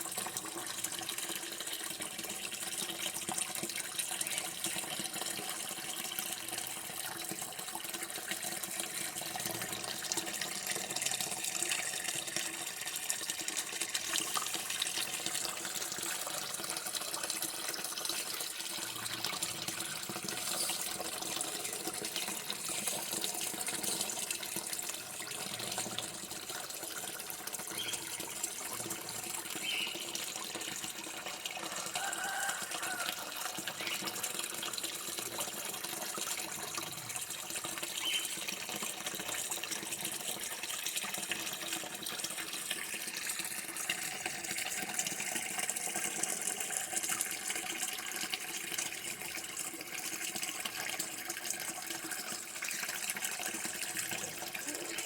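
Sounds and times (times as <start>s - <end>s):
running water flowing: 0.0s - 55.0s.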